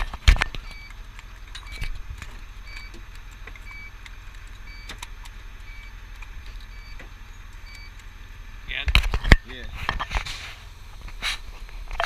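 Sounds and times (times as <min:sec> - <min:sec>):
fire engine rumbling: 0:00.0 - 0:12.0.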